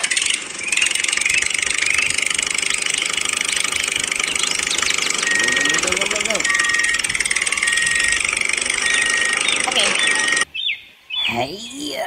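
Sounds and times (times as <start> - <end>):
toy tractor engine chatter: 0.0 - 10.5.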